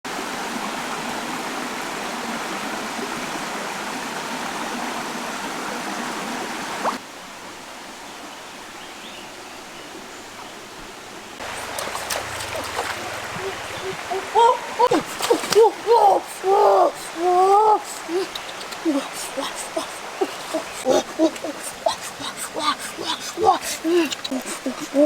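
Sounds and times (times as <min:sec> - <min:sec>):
stream water rushing: 0:00.1 - 0:08.8, 0:09.4 - 0:25.0.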